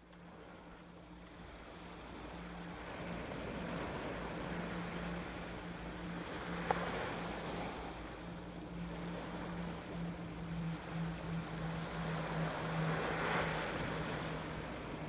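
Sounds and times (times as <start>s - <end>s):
low hum: 0.0s - 15.0s
ocean waves washing: 0.0s - 15.0s.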